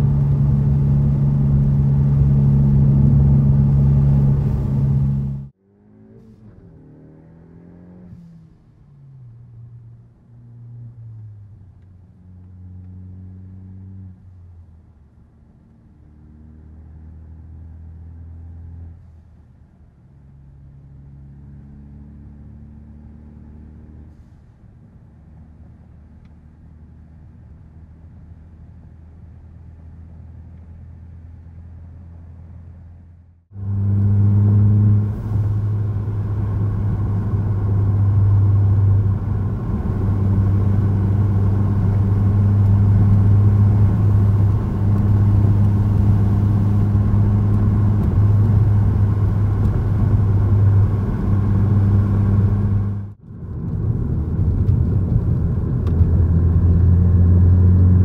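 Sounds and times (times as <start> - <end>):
car engine accelerating: 0.0 - 19.1, 29.8 - 58.0.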